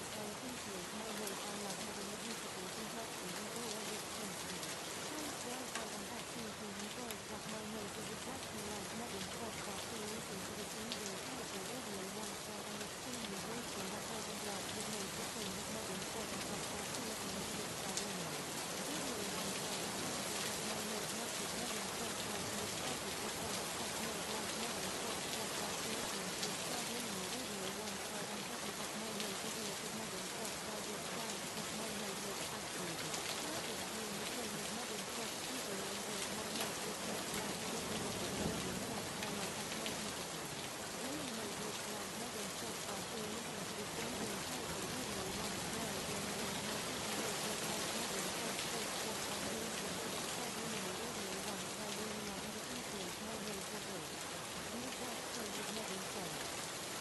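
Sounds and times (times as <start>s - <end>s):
faint voice: 0.0s - 56.4s
steady rain hiss: 0.0s - 57.0s.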